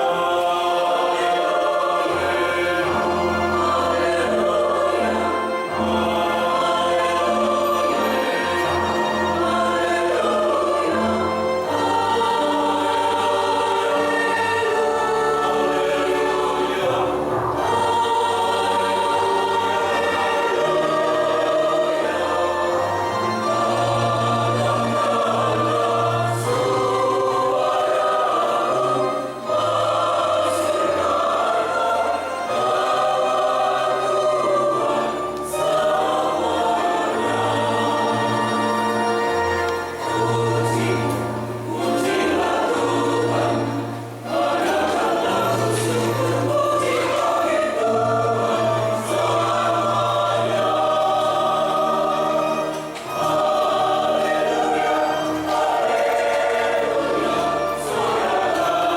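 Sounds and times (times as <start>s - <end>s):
choir singing a hymn: 0.0s - 58.9s.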